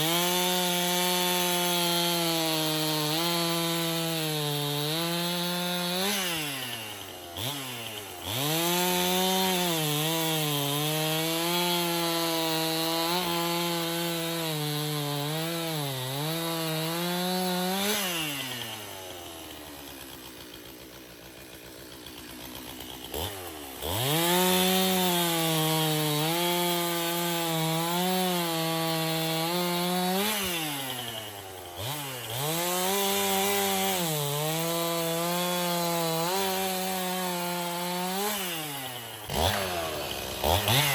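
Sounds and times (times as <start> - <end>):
chainsaw cutting a log: 0.0 - 40.9.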